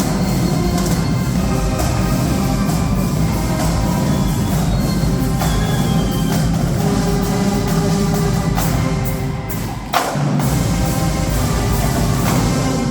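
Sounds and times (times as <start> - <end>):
marching band playing: 0.0 - 12.9.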